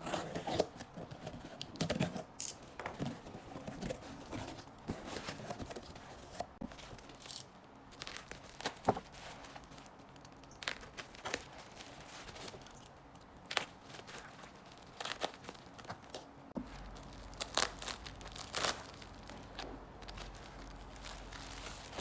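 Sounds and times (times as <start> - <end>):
plastic packaging crinkling: 3.8 - 22.0.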